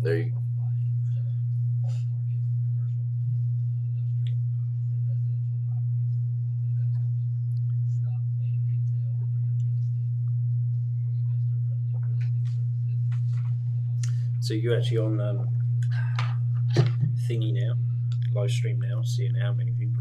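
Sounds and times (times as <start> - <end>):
low electrical mains hum: 0.0 - 20.0.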